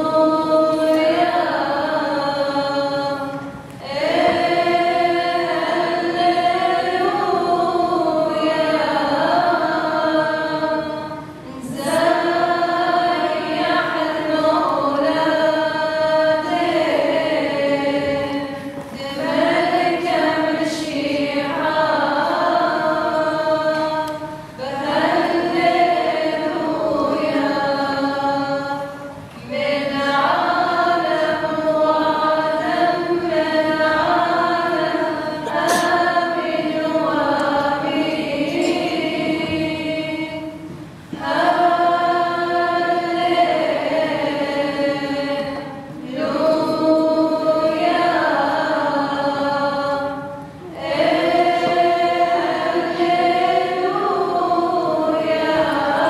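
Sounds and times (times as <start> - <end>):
voices singing chant in unison: 0.0 - 56.0.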